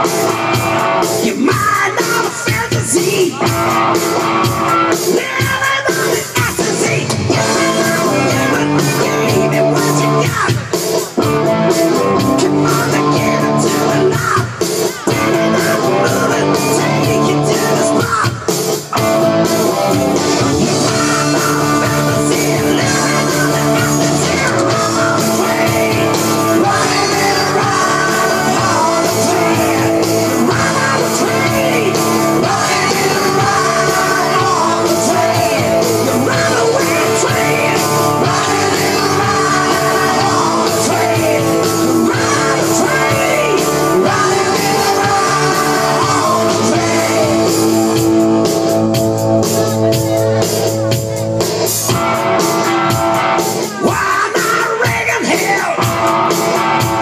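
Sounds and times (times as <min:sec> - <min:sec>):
rock music with guitar: 0:00.0 - 0:57.0.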